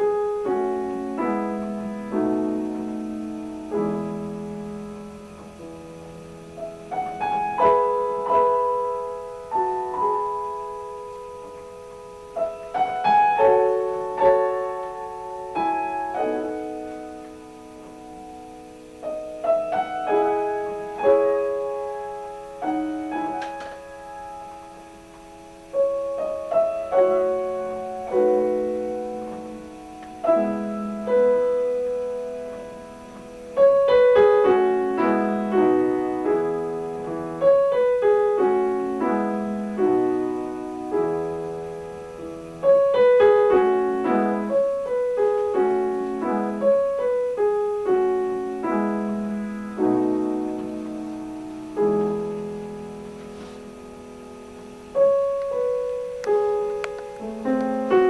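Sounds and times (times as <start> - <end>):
solo piano playing slow piece: 0.0 - 58.0.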